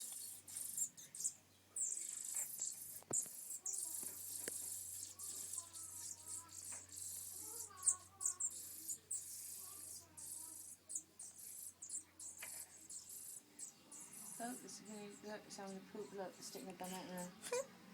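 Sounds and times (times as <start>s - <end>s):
nestling birds begging: 0.0s - 17.9s.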